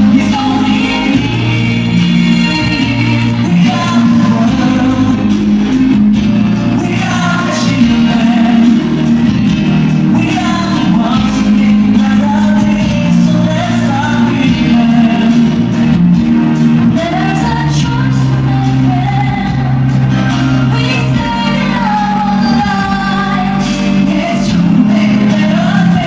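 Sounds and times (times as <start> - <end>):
amplified backing music: 0.0 - 26.0
man and woman singing duet: 0.0 - 26.0.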